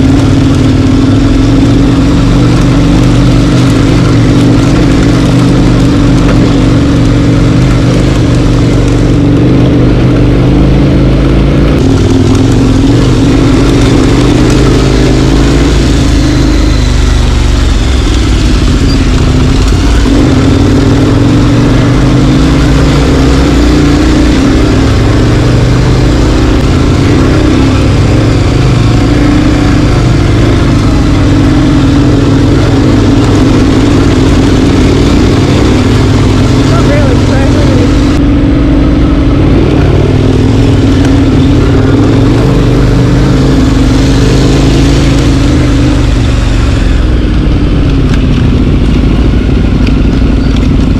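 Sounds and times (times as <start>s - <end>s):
vehicle engine running while driving: 0.0s - 50.9s.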